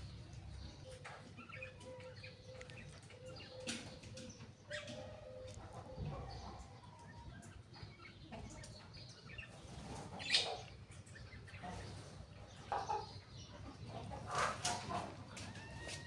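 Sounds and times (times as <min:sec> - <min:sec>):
birds chirping in bursts: 0:00.0 - 0:16.0.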